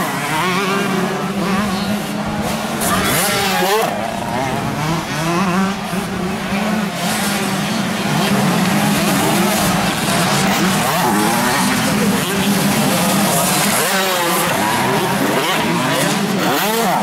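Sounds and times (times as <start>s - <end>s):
motocross bike engines racing: 0.0s - 17.0s.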